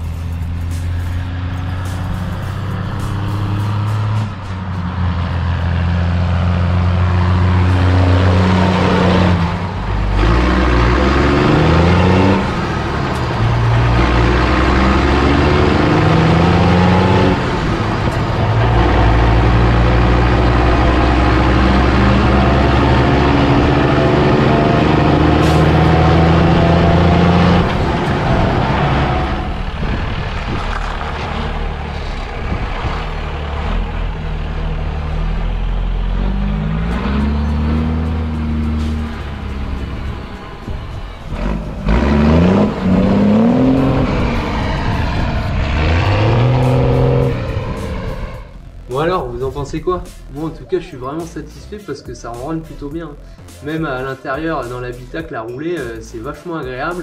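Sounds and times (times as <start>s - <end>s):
diesel truck engine accelerating: 0.0s - 57.0s.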